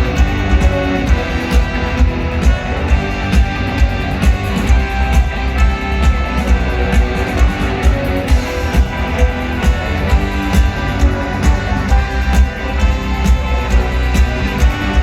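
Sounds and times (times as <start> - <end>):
rock band and orchestra playing: 0.0 - 15.0.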